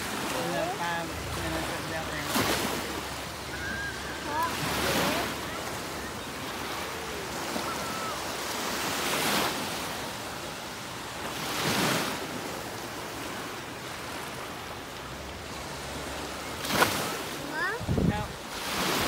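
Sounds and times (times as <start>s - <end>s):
small surf breaking: 0.0s - 19.0s.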